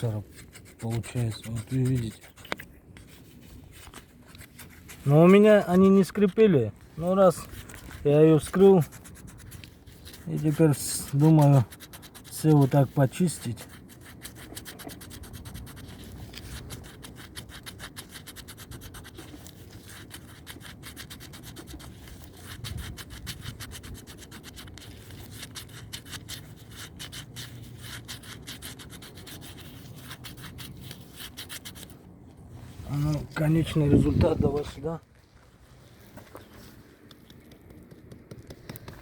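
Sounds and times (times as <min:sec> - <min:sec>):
scrubbing rubber seal: 0:00.0 - 0:32.0.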